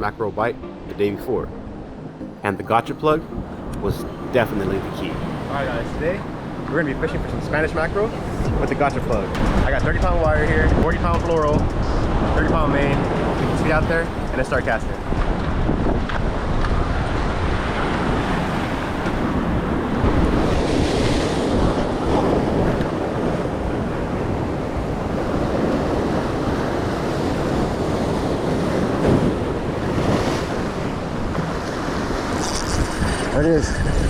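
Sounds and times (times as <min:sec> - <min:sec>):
wind on microphone: 0:05.1 - 0:34.0.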